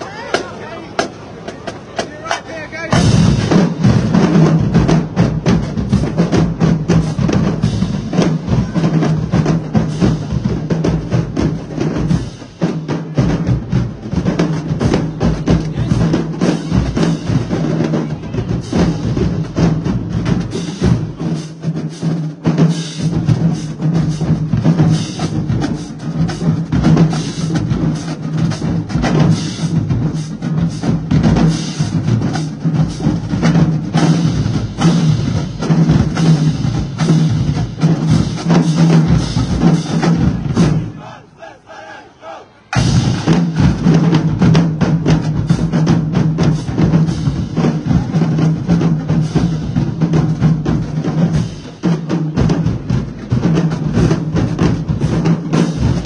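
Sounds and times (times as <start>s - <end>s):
snare drums: 0.0s - 56.0s
bass drums: 2.8s - 41.0s, 42.8s - 56.0s.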